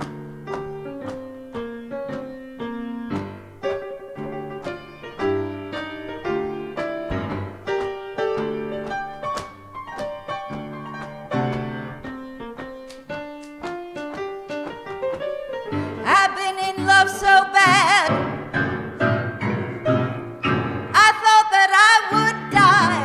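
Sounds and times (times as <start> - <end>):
piano chords and notes: 0.0 - 23.0.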